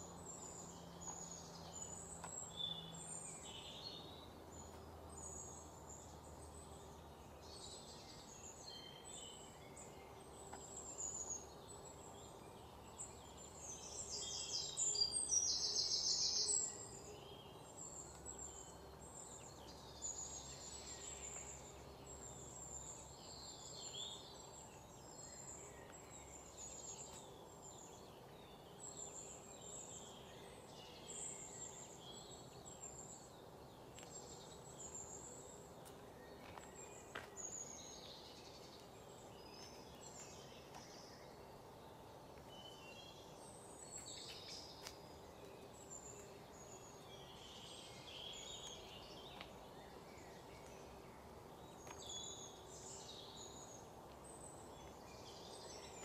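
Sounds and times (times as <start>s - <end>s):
birds chirping: 0.0s - 56.0s
low background hiss: 0.0s - 56.0s.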